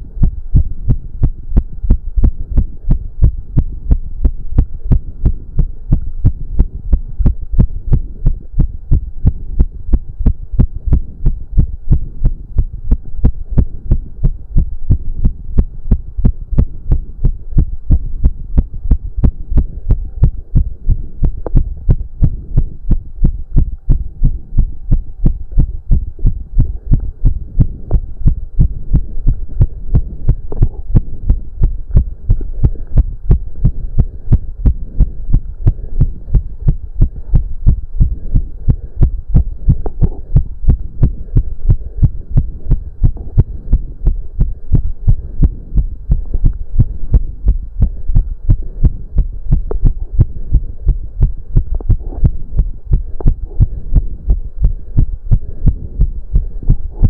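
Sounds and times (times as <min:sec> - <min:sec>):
heart beating fast: 0:00.0 - 0:57.0.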